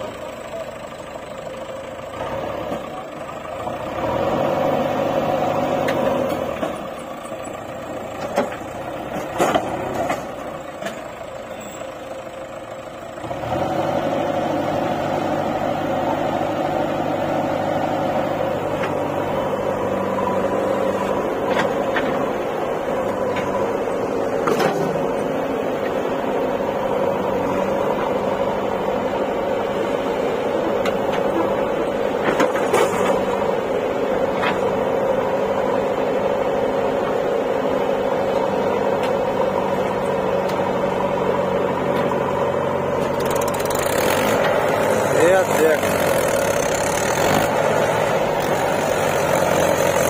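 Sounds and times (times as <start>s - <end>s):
diesel engine running under load: 0.0s - 50.0s
tractor diesel engine: 0.0s - 50.0s
tractor revving: 0.0s - 50.0s.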